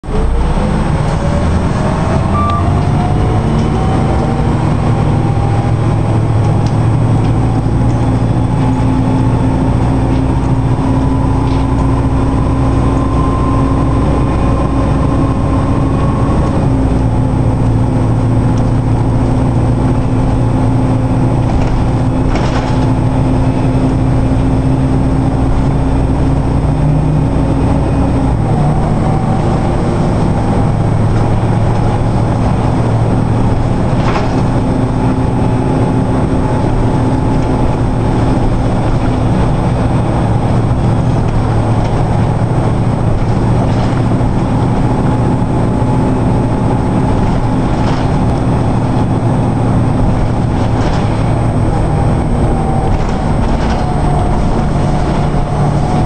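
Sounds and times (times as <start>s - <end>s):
bus drivetrain drone: 0.0s - 56.0s
rising whine: 0.0s - 56.0s.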